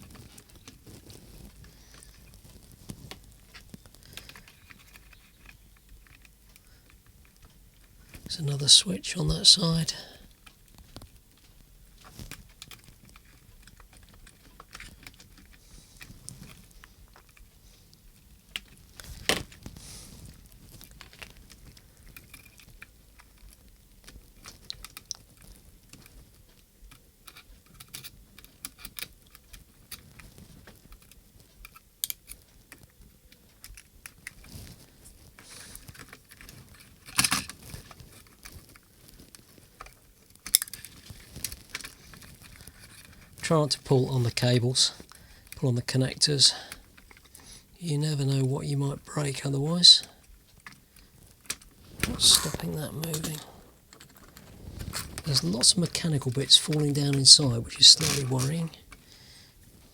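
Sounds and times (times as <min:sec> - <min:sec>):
small clicks and rustles: 0:00.0 - 0:08.4, 0:09.3 - 0:45.6, 0:46.5 - 0:47.8, 0:50.0 - 0:59.9.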